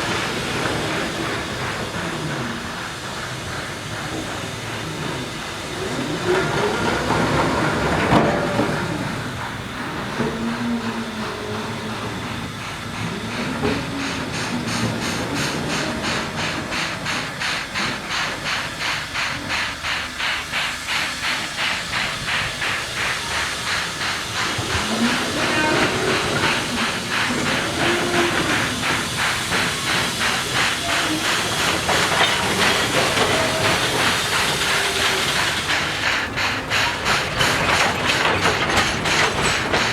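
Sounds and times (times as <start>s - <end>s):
steam hiss: 0.0s - 39.9s
steam locomotive exhaust chuff: 0.0s - 39.9s.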